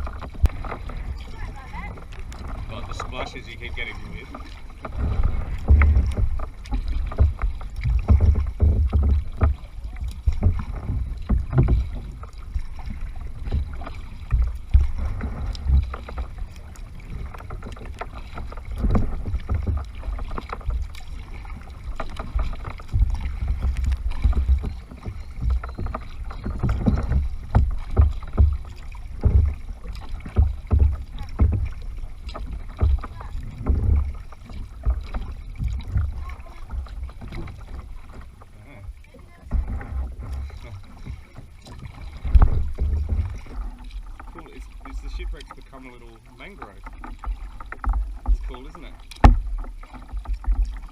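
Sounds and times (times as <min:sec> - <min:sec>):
wind rumble on microphone: 0:00.0 - 0:45.3
kayak paddle strokes: 0:00.0 - 0:50.9
water splashing against hull: 0:00.0 - 0:50.9.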